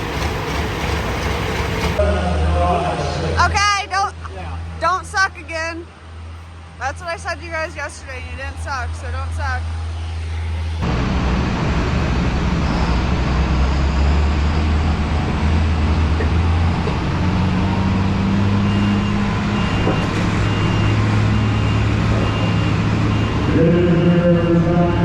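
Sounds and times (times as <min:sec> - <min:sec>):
large engine running: 0:00.0 - 0:25.0.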